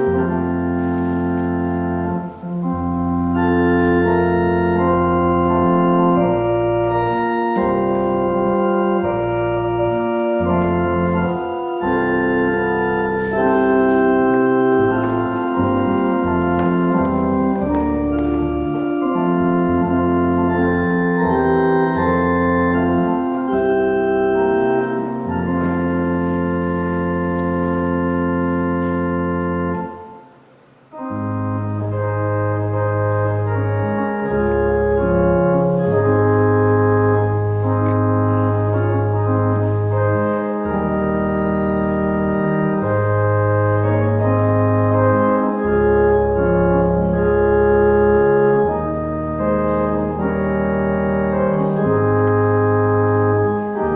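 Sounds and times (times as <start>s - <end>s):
organ playing slow chords: 0.0s - 53.9s.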